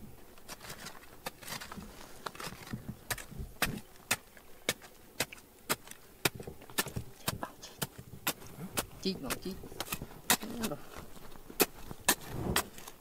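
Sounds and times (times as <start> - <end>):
hand tool striking stone and soil: 0.5 - 13.0.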